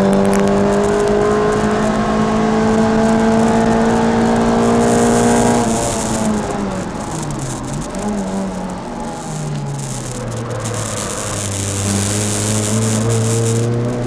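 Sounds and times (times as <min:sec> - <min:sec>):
car engine under full throttle: 0:00.0 - 0:14.0
road and wind noise: 0:00.0 - 0:14.0.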